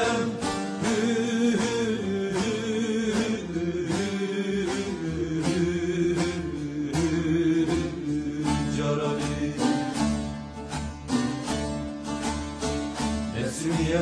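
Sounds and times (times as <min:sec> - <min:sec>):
plucked lute melody over drone: 0:00.0 - 0:14.0.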